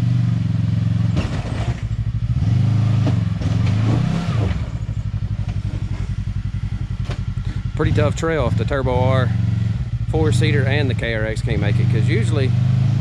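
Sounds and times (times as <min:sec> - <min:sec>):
utv engine revving and idling: 0:00.0 - 0:13.0.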